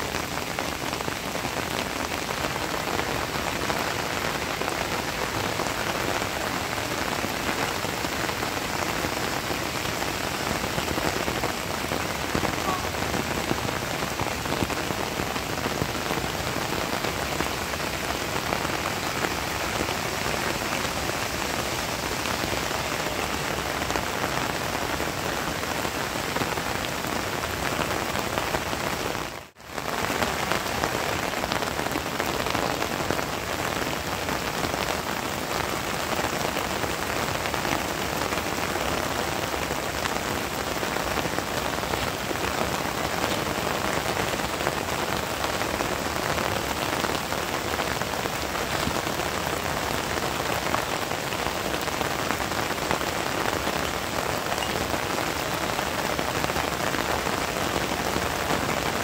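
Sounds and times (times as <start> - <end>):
heavy rain on ground: 0.0 - 59.0.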